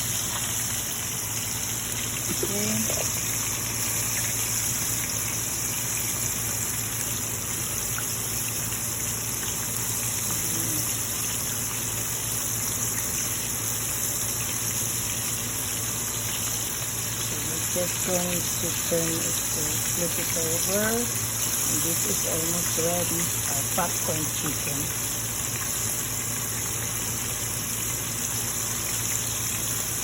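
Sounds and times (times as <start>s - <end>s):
chicken deep frying in oil: 0.0s - 30.0s.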